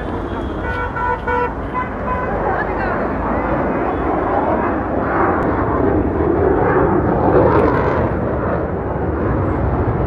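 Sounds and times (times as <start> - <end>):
jet flying past overhead: 0.0 - 10.0.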